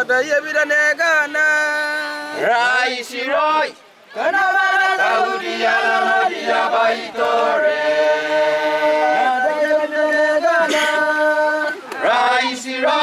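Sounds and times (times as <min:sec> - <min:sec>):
group chanting in unison: 0:02.3 - 0:13.0.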